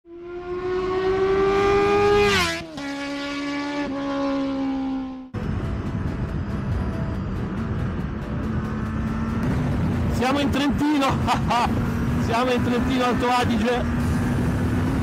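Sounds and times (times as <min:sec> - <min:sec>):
motorcycle engine revving: 0:00.1 - 0:15.0
wind and road noise: 0:00.1 - 0:15.0.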